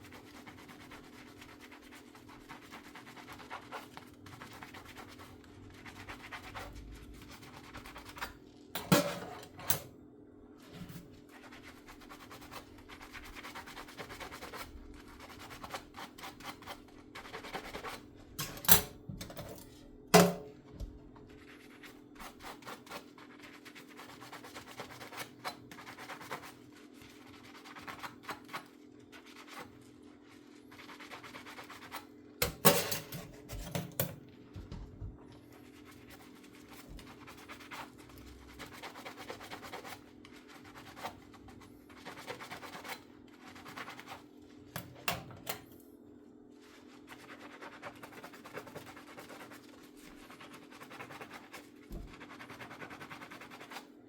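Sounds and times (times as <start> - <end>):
sponge scrubbing dishes: 0.0 - 9.8, 10.6 - 45.5, 46.5 - 53.9.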